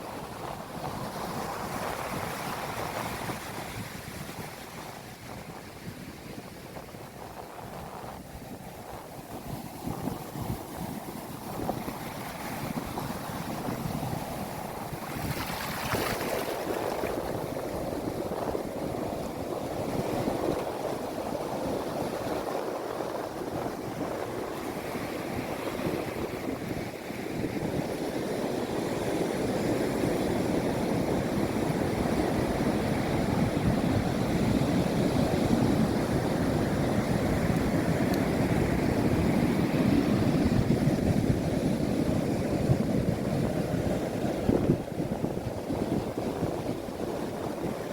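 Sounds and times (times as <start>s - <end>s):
sea waves breaking ashore: 8.8s - 47.9s.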